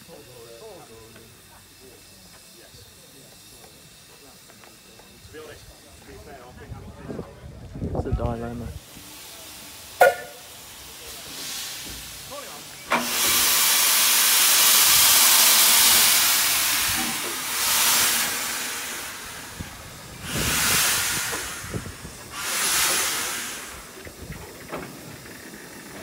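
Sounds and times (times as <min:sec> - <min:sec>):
steam blasts: 0:00.0 - 0:06.9, 0:08.5 - 0:26.0
steam locomotive hissing: 0:00.0 - 0:26.0.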